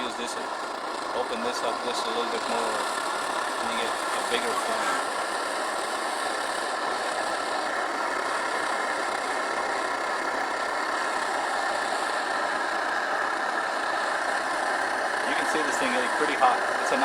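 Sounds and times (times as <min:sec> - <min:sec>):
camping stove burning: 0:00.0 - 0:17.0.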